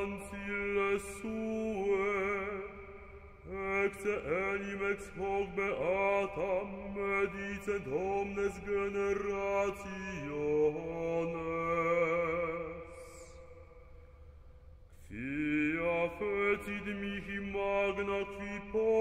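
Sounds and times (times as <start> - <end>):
solo voice chanting: 0.0 - 14.3, 14.9 - 19.0.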